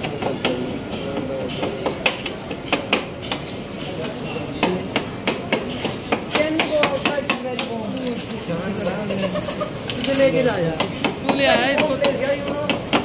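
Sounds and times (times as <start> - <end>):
metal spatulas clacking on steel: 0.0 - 13.0.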